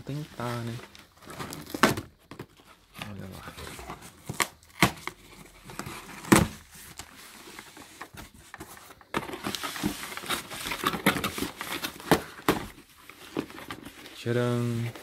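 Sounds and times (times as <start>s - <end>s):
cardboard rustling and scraping: 0.0s - 15.0s
cardboard cracking: 1.2s - 7.1s, 8.1s - 14.4s.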